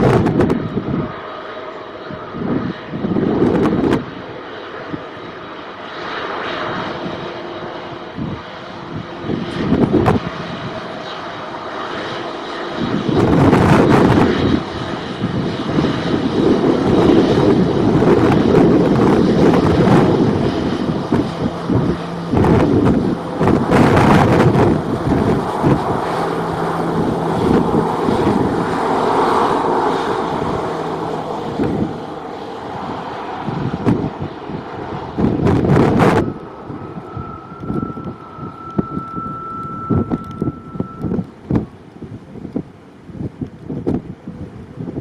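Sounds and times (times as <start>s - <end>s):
jet engines roaring: 0.0s - 45.0s
wind buffeting microphone: 0.0s - 45.0s.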